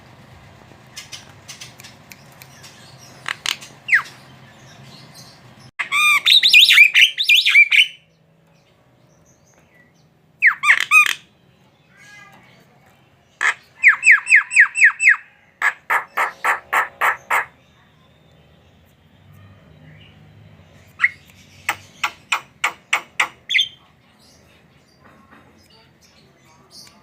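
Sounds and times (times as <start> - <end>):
myna bird calling: 0.8 - 8.2, 9.5 - 12.6, 13.2 - 18.4, 19.7 - 27.0.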